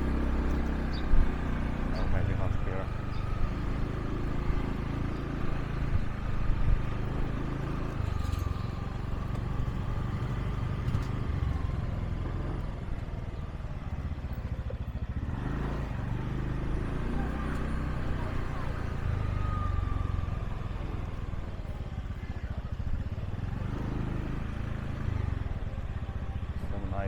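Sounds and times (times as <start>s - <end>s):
motorbike engine running: 0.0s - 27.0s.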